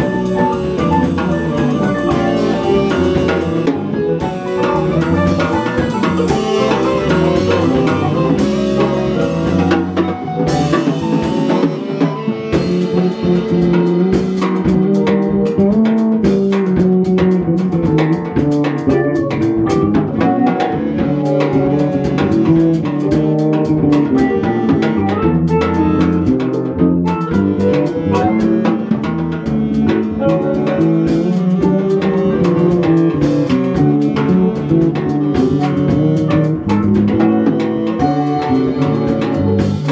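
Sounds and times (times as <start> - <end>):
drum and cymbal hits: 0.0 - 39.9
live band playing: 0.0 - 39.9.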